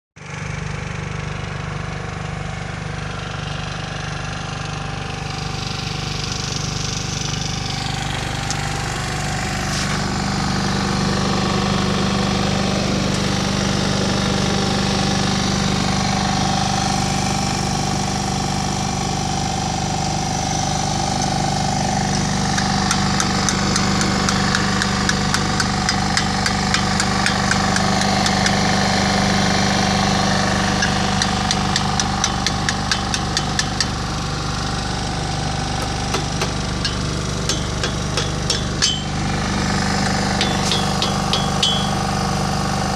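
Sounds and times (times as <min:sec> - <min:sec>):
generator engine running: 0:00.2 - 0:42.9.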